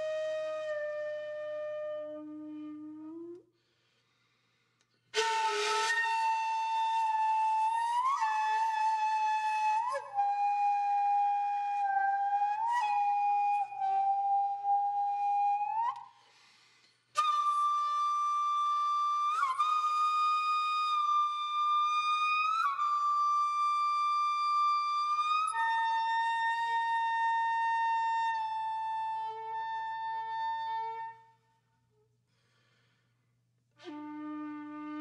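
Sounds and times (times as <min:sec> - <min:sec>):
solo flute melody: 0:00.0 - 0:03.5, 0:05.2 - 0:16.4, 0:17.2 - 0:31.6, 0:33.8 - 0:35.0.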